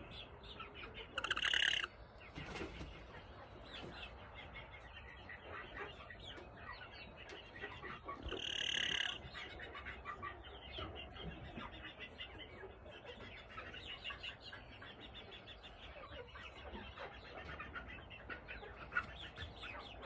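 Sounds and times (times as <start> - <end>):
chicken clucking softly: 0.0 - 20.0.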